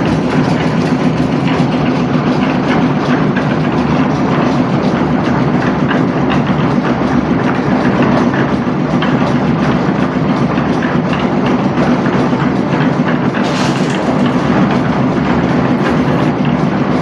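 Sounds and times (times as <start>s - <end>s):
constant low hum: 0.0s - 17.0s
construction machine engine clattering: 0.0s - 17.0s
rattles and knocks: 0.0s - 17.0s.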